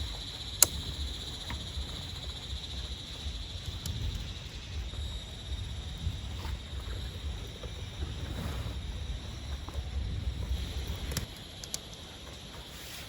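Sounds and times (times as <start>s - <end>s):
low rumble: 0.0s - 11.6s
faint ticks: 0.0s - 13.0s
insect chorus chirring: 0.0s - 13.0s.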